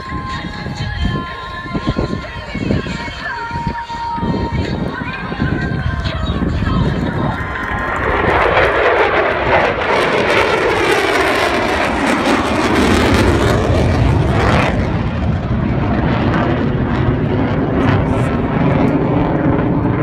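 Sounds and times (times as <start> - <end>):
fighter jets roaring past: 0.0 - 20.0
low jet rumble: 0.0 - 20.0.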